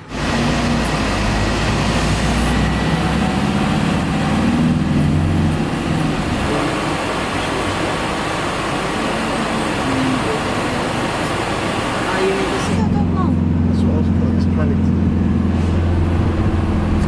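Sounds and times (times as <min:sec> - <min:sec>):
road noise: 0:00.0 - 0:17.0
van engine: 0:00.0 - 0:17.0.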